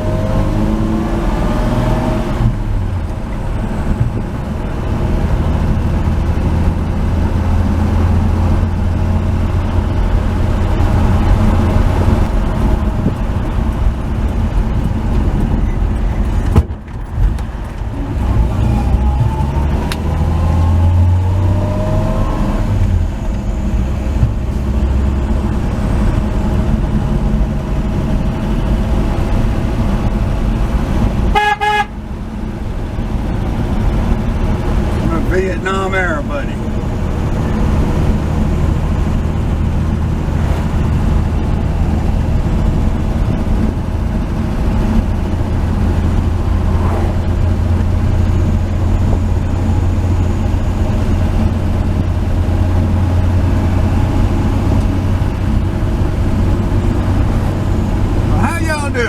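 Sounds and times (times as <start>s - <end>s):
pickup truck engine running: 0.0s - 21.8s, 22.6s - 59.0s.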